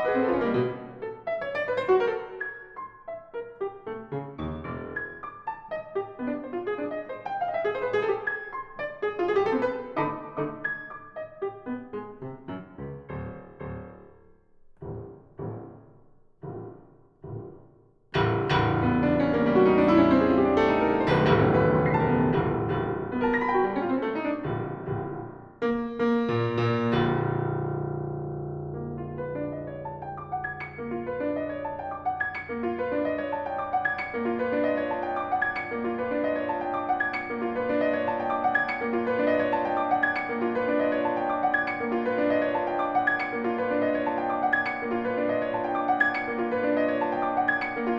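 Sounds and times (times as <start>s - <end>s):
piano playing classical music: 0.0s - 47.9s.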